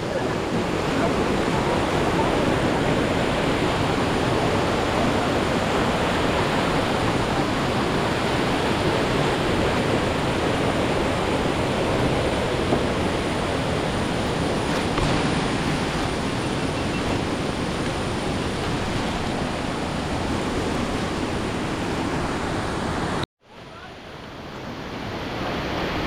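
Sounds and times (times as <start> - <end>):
rushing water roar: 0.0 - 26.0.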